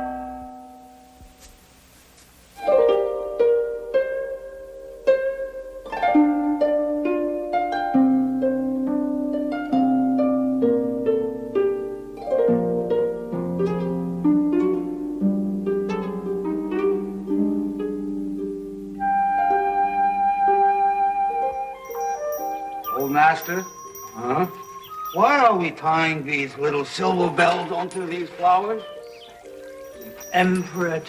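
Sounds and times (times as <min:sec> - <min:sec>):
harp plucking notes: 0:02.6 - 0:31.0.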